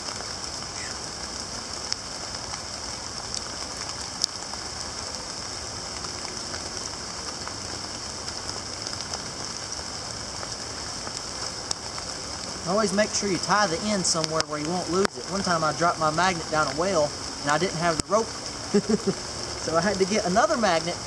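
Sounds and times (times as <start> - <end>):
rain on leaf litter: 0.0 - 21.0.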